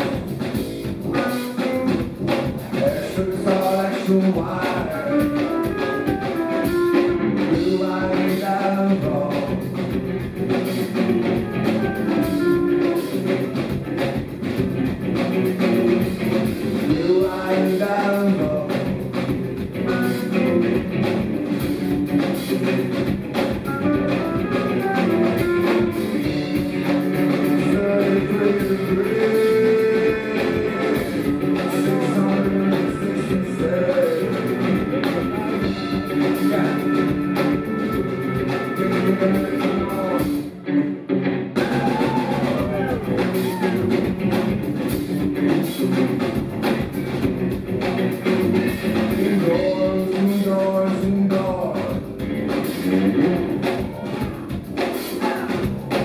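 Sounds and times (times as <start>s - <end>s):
steady drum beat: 0.0s - 40.5s, 41.6s - 56.0s
live rock band playing: 0.0s - 56.0s.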